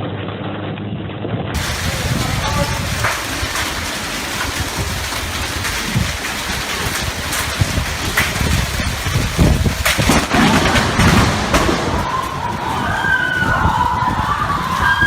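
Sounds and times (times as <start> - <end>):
lightning crack: 1.6 - 15.0
rain: 1.6 - 15.0.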